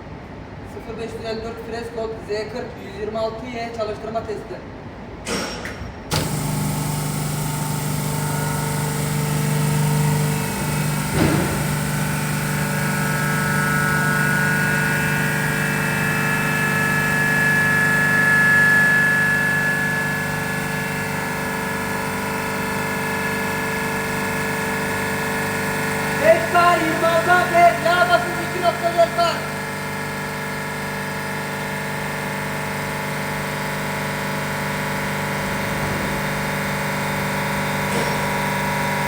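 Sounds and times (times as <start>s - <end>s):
compressor humming and whining: 0.0s - 39.0s.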